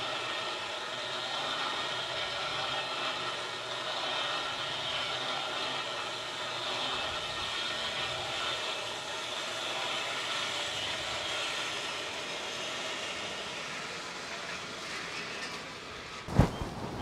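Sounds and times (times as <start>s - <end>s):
wheels rumbling along rope: 0.0s - 17.0s.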